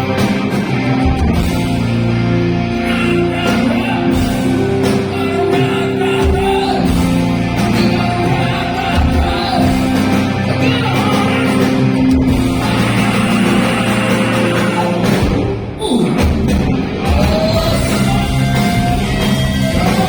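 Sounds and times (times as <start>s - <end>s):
live rock band playing: 0.0s - 20.0s
person singing: 2.8s - 16.4s, 17.0s - 20.0s.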